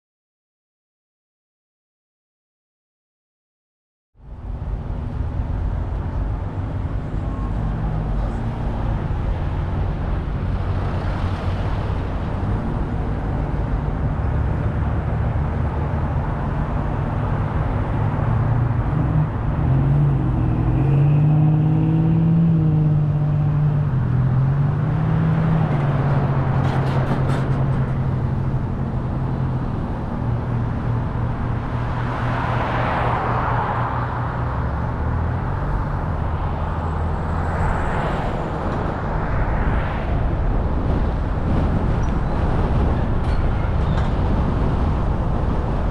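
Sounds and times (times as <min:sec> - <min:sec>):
car engine: 0:04.2 - 0:45.9.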